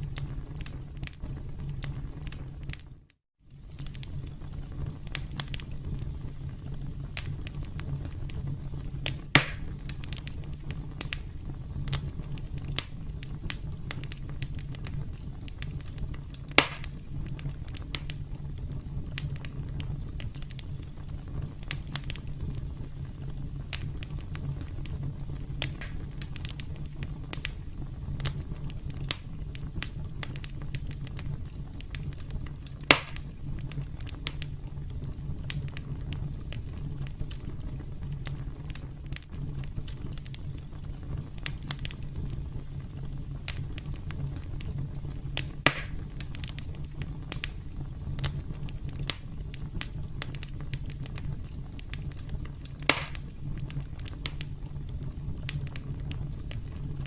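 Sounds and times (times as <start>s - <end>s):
campfire crackling: 0.0s - 57.0s
wood fire popping and snapping: 0.0s - 57.0s.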